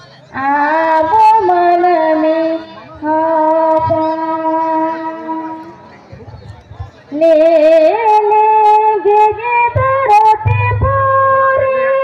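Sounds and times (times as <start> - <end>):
person singing long notes: 0.2 - 5.8, 7.1 - 12.0.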